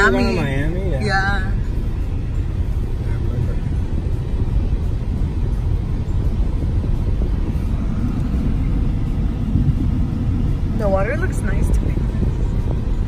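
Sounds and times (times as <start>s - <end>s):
car driving heard from inside: 0.0s - 13.0s.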